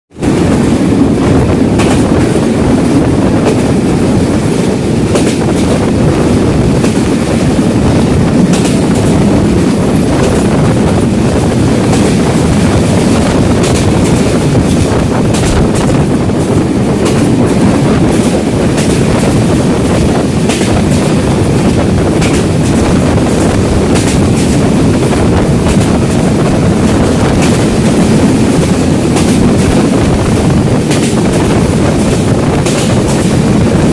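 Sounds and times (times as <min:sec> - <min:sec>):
train wheels rumbling on rails: 0:00.1 - 0:33.9
wind buffeting microphone: 0:00.1 - 0:33.9.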